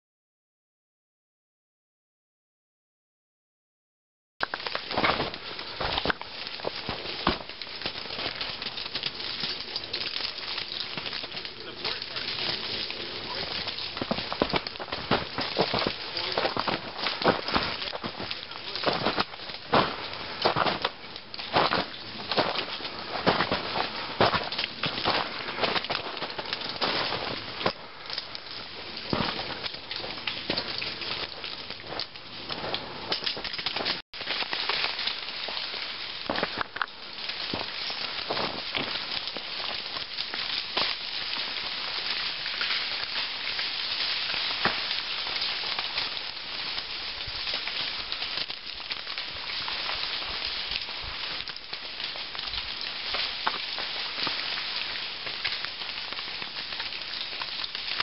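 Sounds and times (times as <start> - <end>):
ice crackling and pattering: 4.4 - 58.0.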